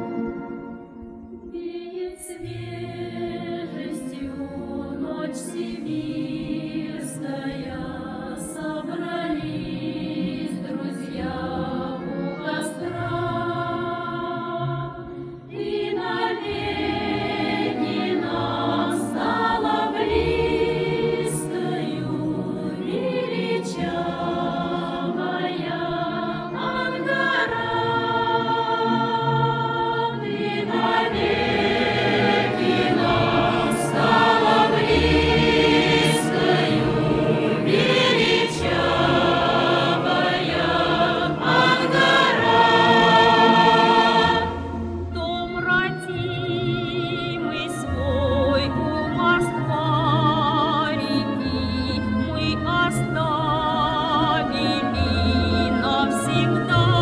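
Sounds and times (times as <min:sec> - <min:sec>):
choir singing slow song: 0:00.9 - 0:57.0.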